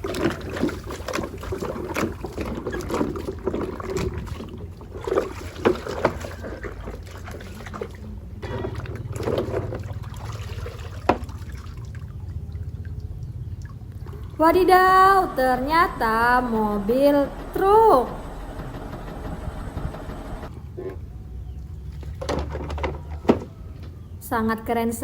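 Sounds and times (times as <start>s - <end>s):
water splashing and trickling: 0.0s - 20.5s, 21.5s - 23.8s.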